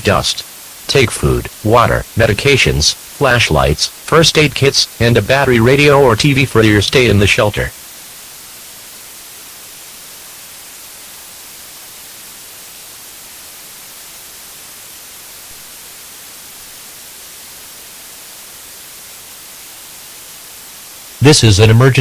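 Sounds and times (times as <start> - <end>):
static hiss: 0.0 - 22.0.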